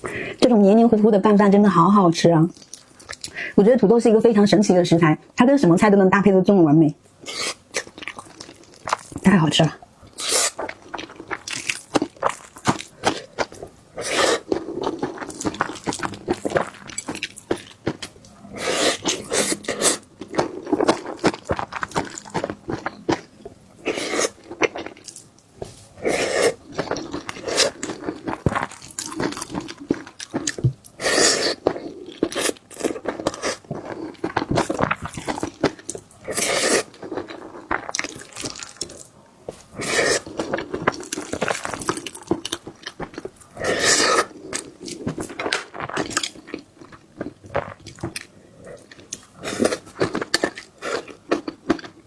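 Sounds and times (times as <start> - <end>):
chewing and crunching: 2.4 - 3.4, 7.2 - 9.4, 10.0 - 52.0.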